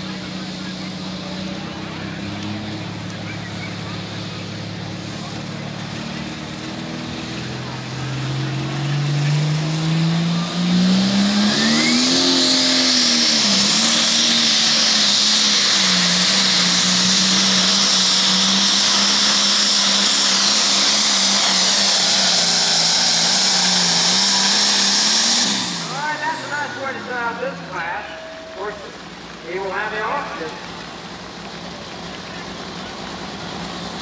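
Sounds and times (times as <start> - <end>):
diesel engine at full power: 0.0 - 34.0.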